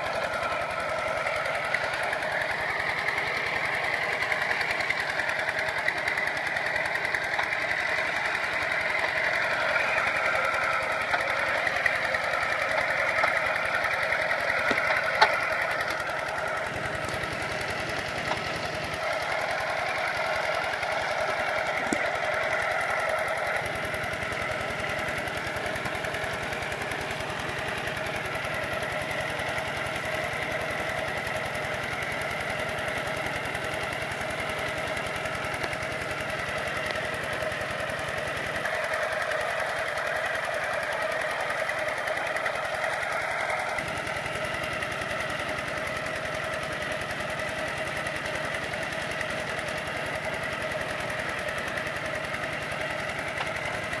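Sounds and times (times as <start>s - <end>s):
diesel engine chattering under load: 0.0s - 54.0s.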